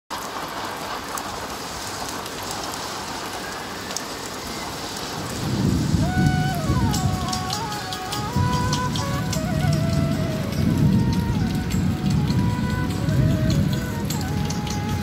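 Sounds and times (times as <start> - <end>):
rain hissing on a roof: 0.1 - 15.0
water dripping: 0.1 - 15.0.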